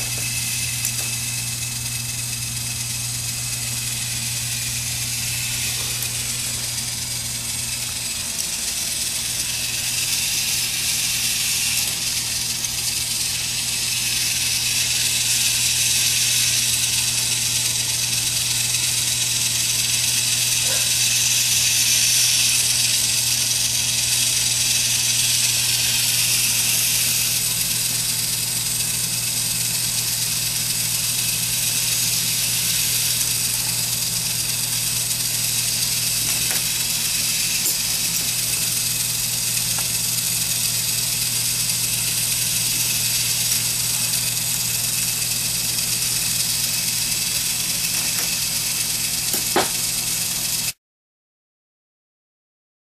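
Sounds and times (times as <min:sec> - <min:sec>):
small electric motors humming: 0:00.0 - 0:50.8.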